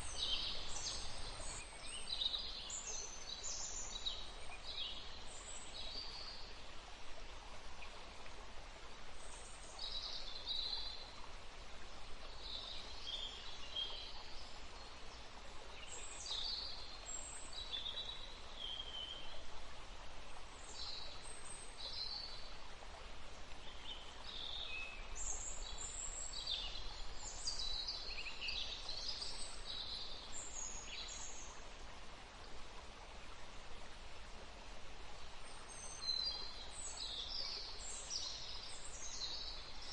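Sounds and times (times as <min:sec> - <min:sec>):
songbirds chirping: 0:00.0 - 0:39.9
stream running: 0:00.0 - 0:39.9.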